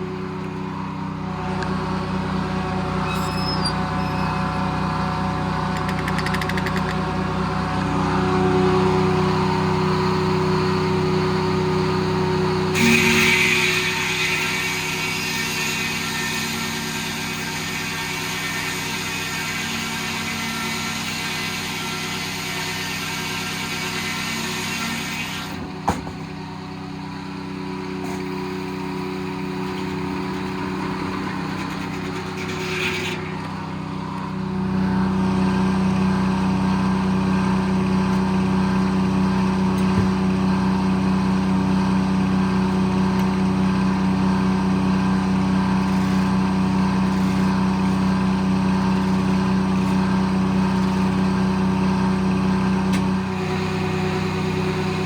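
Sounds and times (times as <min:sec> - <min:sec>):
diesel engine running: 0:00.0 - 0:19.9, 0:25.6 - 0:55.0.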